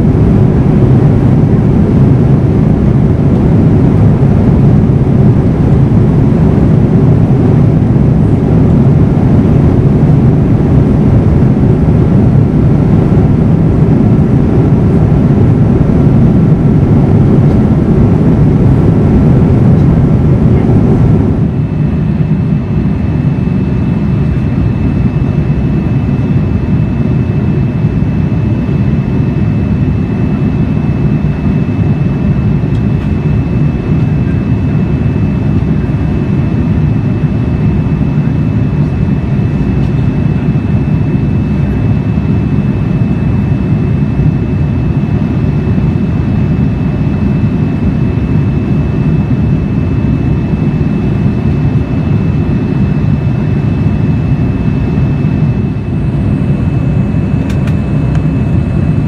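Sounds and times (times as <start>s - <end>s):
airliner cabin jet engine roar: 0.0s - 59.0s
faint high whine: 0.0s - 59.0s.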